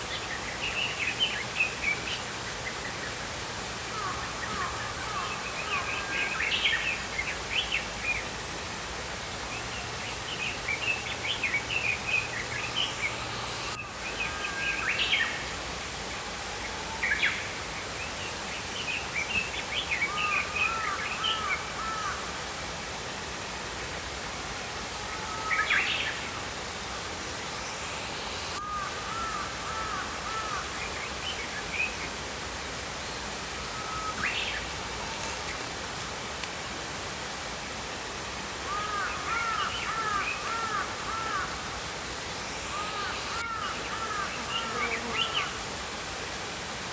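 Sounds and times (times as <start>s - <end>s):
stream flowing: 0.0s - 46.9s.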